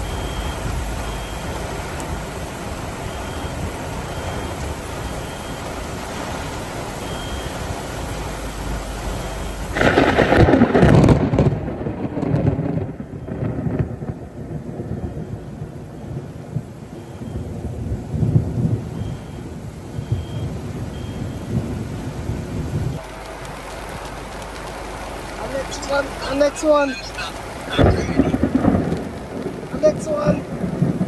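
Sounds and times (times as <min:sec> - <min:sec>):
heavy rain hissing: 0:00.0 - 0:31.0
thunder cracking and rumbling: 0:00.0 - 0:31.0.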